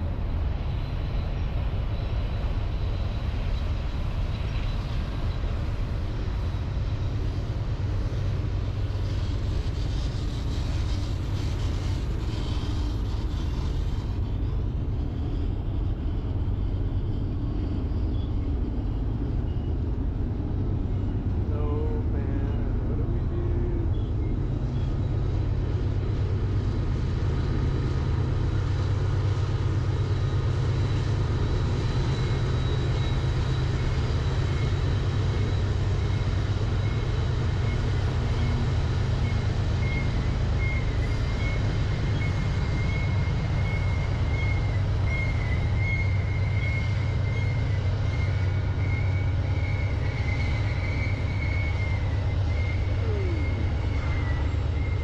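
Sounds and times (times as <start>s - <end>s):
freight train rumbling: 0.0s - 55.0s
high wavering squeal: 8.7s - 55.0s.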